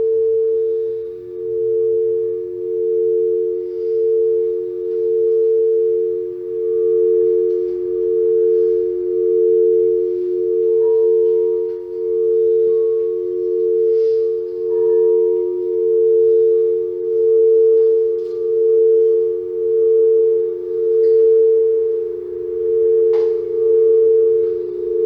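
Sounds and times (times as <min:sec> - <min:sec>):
singing bowls ringing: 0:00.0 - 0:25.0.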